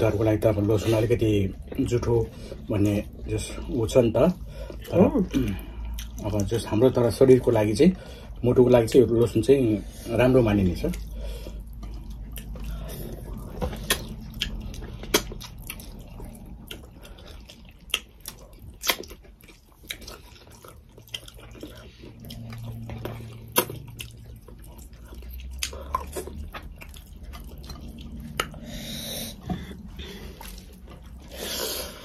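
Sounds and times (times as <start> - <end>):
wet chewing and lip-smacking: 0.0 - 32.0.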